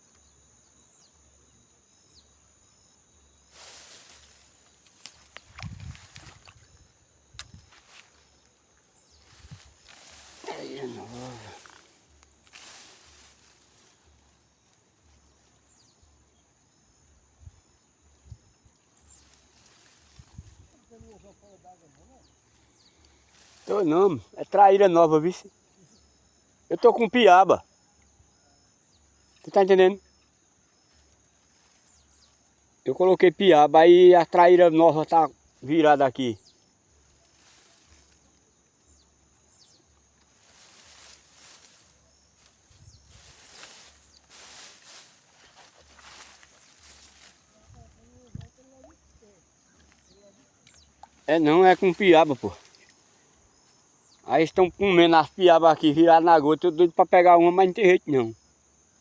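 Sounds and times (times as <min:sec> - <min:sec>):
faint outdoor ambience: 0:00.0 - 0:59.0.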